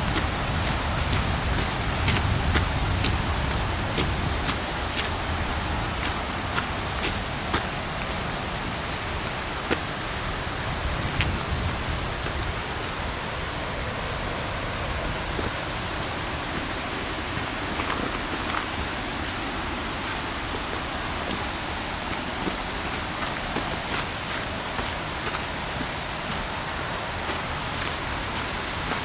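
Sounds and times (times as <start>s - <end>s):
footsteps on dirt trail: 0.0s - 29.0s
steady rushing noise: 0.0s - 29.0s.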